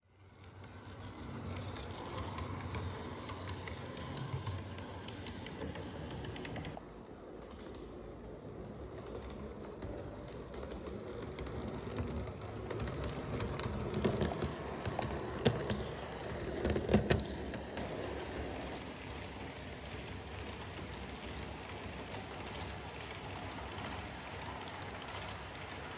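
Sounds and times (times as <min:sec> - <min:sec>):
model trains rattling on track: 0:00.1 - 0:25.9.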